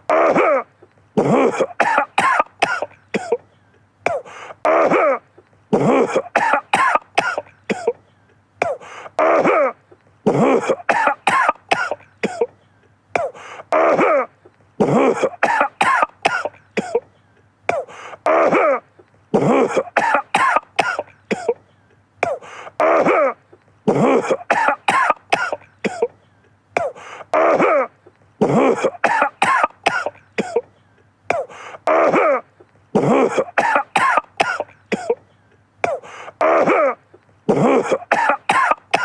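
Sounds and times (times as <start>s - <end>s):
man coughing: 0.0s - 39.0s.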